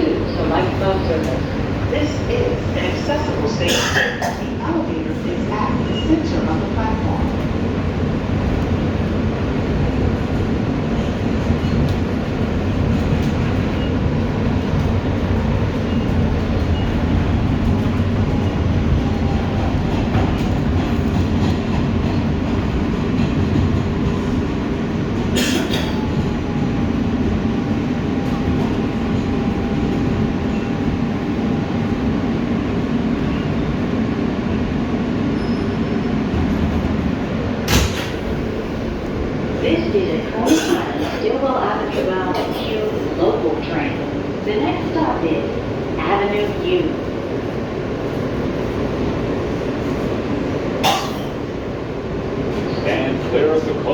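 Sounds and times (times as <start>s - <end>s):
subway car rumble: 0.0s - 53.9s.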